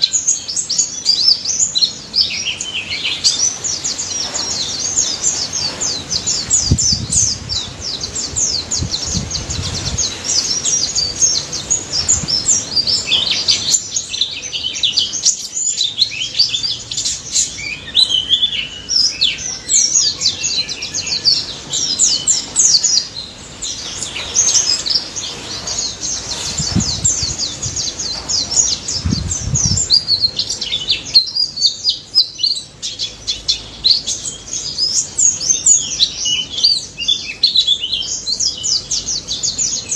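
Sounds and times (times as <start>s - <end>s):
birds singing rapid chirps: 0.0s - 39.9s.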